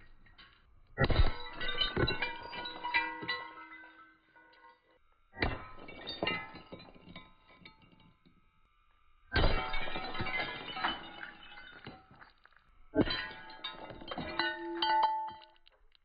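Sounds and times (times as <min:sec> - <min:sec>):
broken pieces clattering and clinking: 0:00.1 - 0:08.3, 0:09.3 - 0:16.0.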